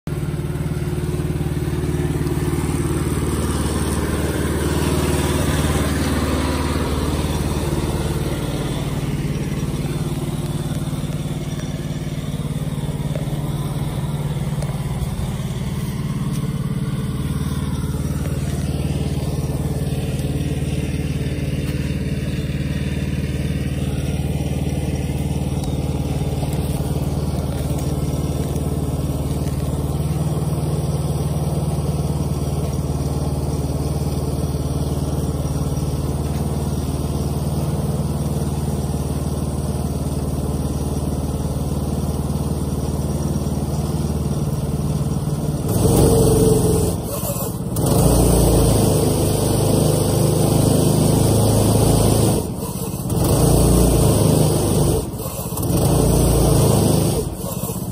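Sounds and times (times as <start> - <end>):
small engine running under load: 0.1 - 57.9
tyres spinning through mud: 0.2 - 38.1, 42.1 - 57.9.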